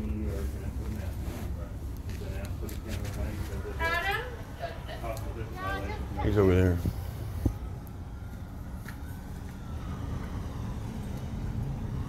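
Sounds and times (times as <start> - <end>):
faint emergency siren wailing: 0.0 - 12.0.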